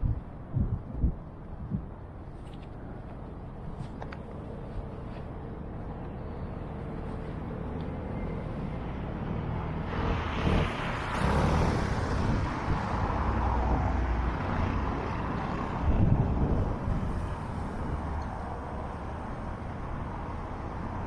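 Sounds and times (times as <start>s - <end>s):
road traffic rumble: 0.0s - 21.0s
vehicles passing close: 0.0s - 21.0s.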